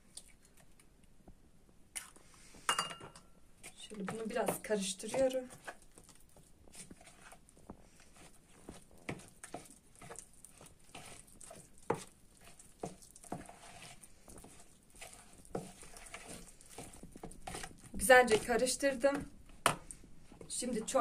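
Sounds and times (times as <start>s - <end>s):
wet squelches and taps of mixing: 0.0s - 21.0s.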